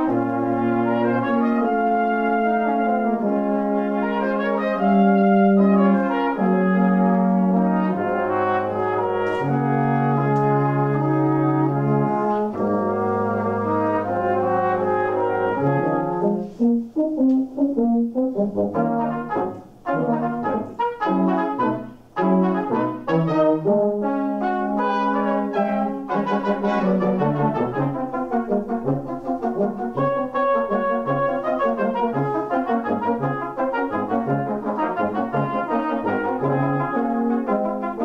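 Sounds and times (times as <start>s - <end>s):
brass quartet playing: 0.0s - 38.0s.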